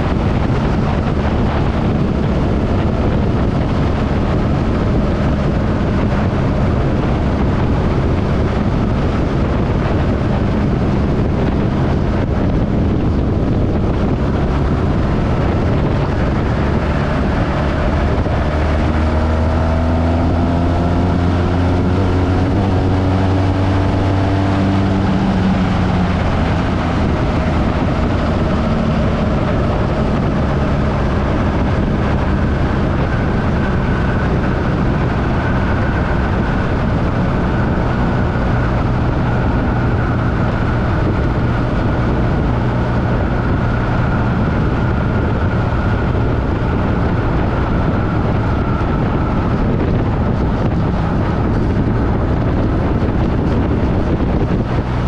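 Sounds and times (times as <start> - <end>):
motorcycle engine drone: 0.0 - 55.0
wind rushing over microphone: 0.0 - 55.0.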